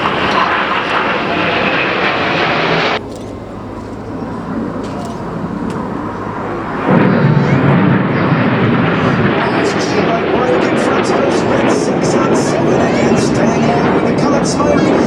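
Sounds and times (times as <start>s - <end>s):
jets flying overhead: 0.0s - 15.0s.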